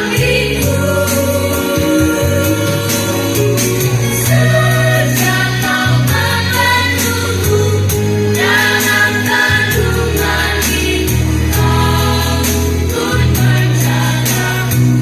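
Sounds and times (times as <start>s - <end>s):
backing music with steady beat: 0.0s - 15.0s.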